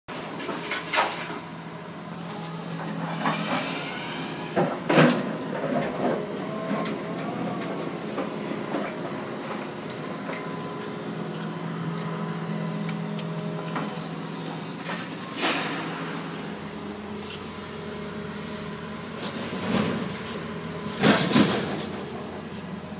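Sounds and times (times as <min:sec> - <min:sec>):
diesel engine running: 0:00.1 - 0:22.9
engine whine: 0:00.1 - 0:22.9.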